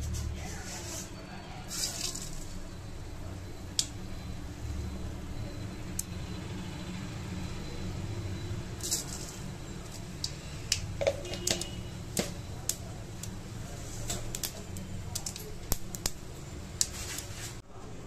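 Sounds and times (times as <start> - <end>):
hot oil crackling and popping: 1.5 - 17.6.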